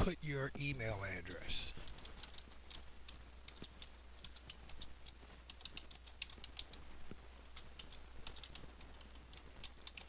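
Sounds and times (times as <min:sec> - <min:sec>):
faint low hum: 0:00.0 - 0:10.0
keyboard typing: 0:01.8 - 0:10.0.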